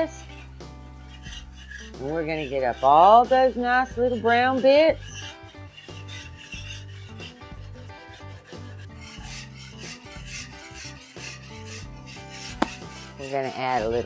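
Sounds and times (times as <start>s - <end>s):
whisk scraping a skillet: 0.0s - 14.0s.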